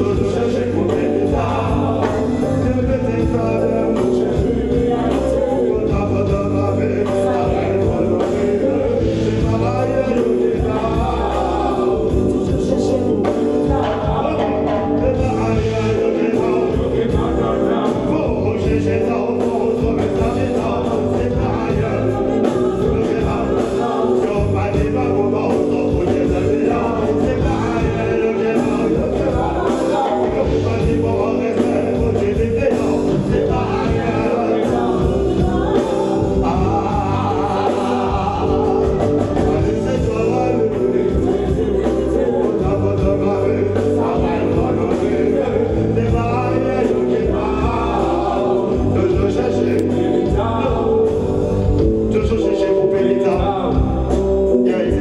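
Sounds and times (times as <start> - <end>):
backing vocalists: 0.0 - 55.0
lead singer: 0.0 - 55.0
reggae band playing: 0.0 - 55.0.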